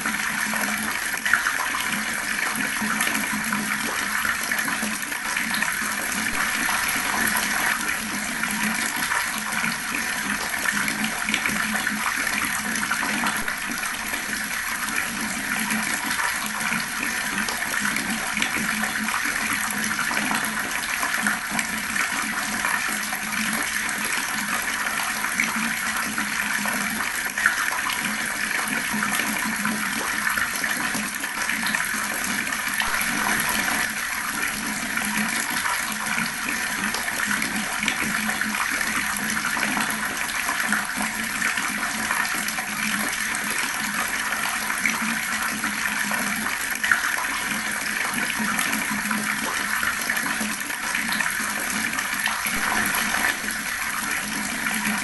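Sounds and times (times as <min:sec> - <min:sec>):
water gushing: 0:00.0 - 0:55.0.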